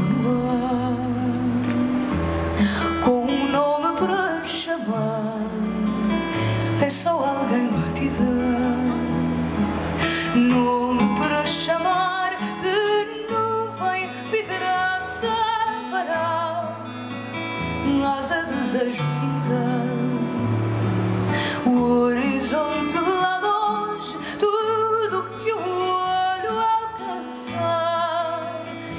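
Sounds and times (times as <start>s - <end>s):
acoustic guitar: 0.0s - 28.9s
woman singing with vibrato: 2.8s - 28.9s.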